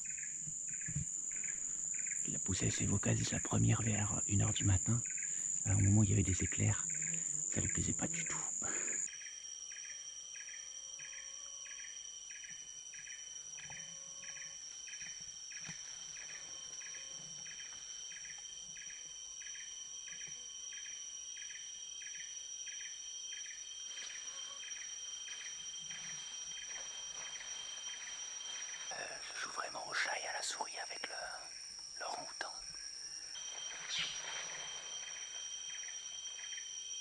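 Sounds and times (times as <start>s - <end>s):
high-pitched insect drones: 0.0s - 37.0s
pulsing insect chirp: 0.0s - 37.0s.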